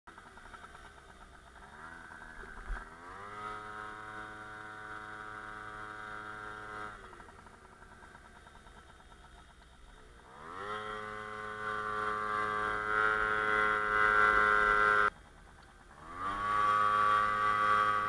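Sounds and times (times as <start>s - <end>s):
moped engine running: 0.1s - 18.0s.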